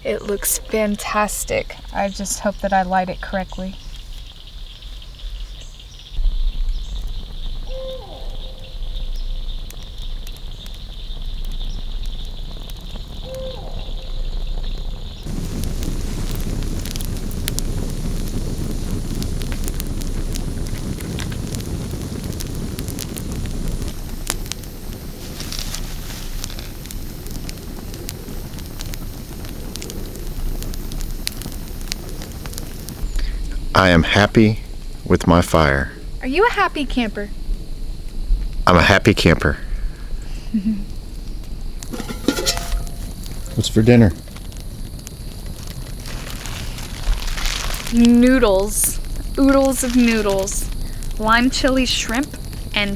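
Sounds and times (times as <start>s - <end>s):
campfire crackling and popping: 0.0s - 52.9s
high insect drone: 0.0s - 52.9s
insect calls: 0.0s - 52.9s.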